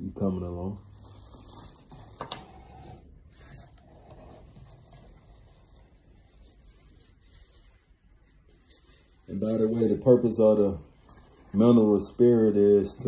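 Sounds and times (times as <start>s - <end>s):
paper towel rubbing: 2.5s - 13.0s.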